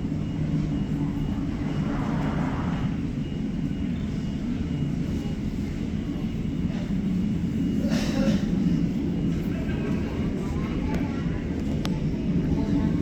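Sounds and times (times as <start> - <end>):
faint high engine whine: 0.0 - 13.0
jet engines rumbling: 0.0 - 13.0.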